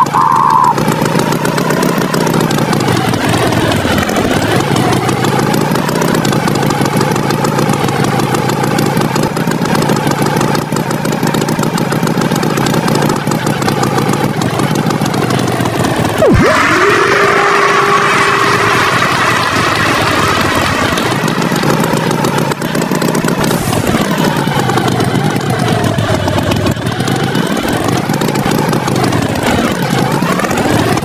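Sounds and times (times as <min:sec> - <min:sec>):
cartoon tractor engine: 0:00.0 - 0:31.0.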